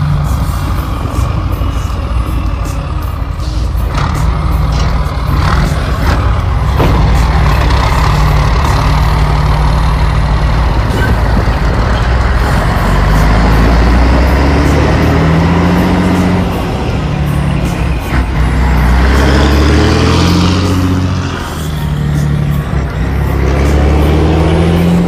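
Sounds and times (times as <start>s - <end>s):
diesel truck engine: 0.0s - 25.0s.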